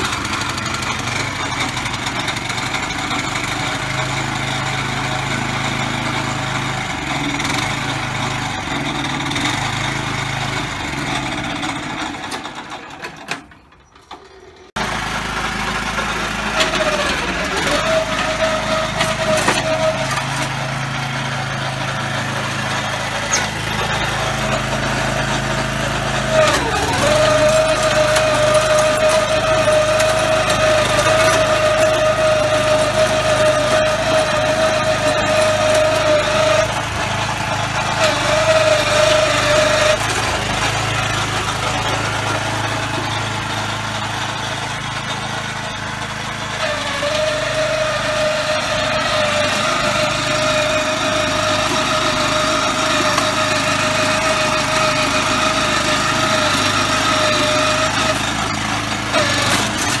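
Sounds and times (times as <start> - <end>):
small petrol engine running: 0.0 - 60.0.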